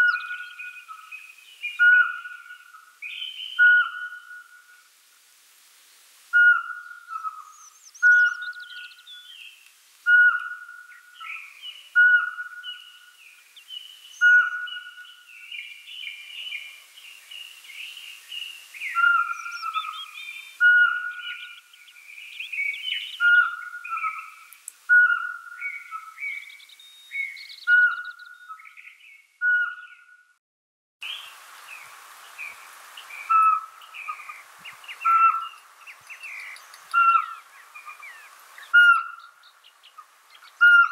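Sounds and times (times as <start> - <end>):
birds chirping and twittering: 0.0 - 4.7, 6.4 - 30.4, 31.0 - 40.9.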